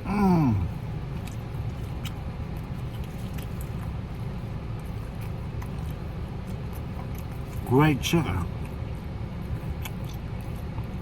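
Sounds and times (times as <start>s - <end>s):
steady low rumble: 0.0s - 11.0s
chewing fried chicken: 0.5s - 11.0s.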